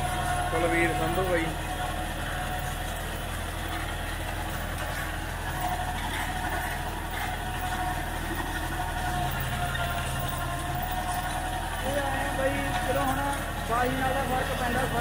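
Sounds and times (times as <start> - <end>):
seeder working the soil: 0.0 - 15.0
tractor diesel engine under load: 0.0 - 15.0.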